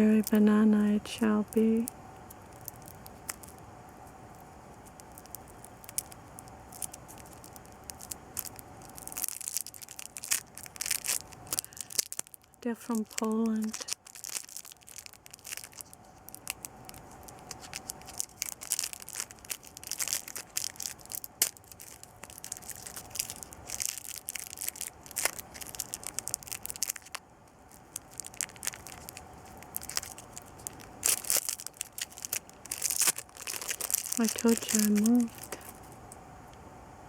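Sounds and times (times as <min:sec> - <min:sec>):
plastic wrapper crinkling: 0:00.0 - 0:36.2.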